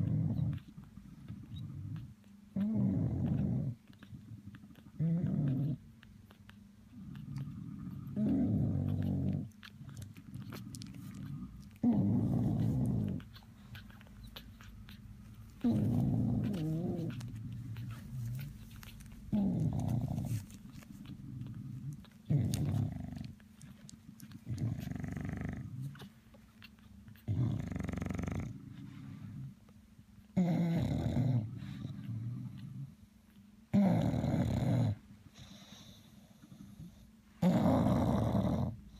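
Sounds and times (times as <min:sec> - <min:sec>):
dog snoring: 0:00.0 - 0:05.8, 0:06.9 - 0:26.1, 0:27.2 - 0:29.5, 0:30.4 - 0:33.0, 0:33.7 - 0:38.9.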